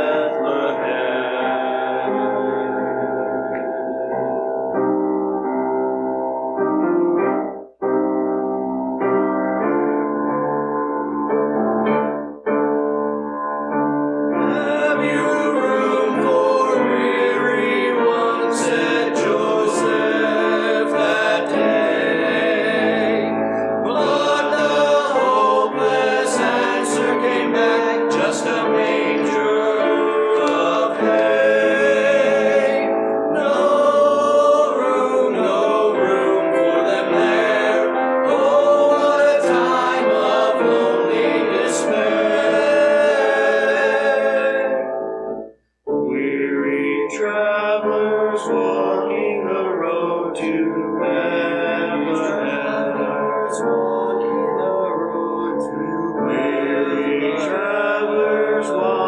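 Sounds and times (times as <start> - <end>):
choir singing with accompaniment: 0.0 - 5.1, 14.3 - 59.0.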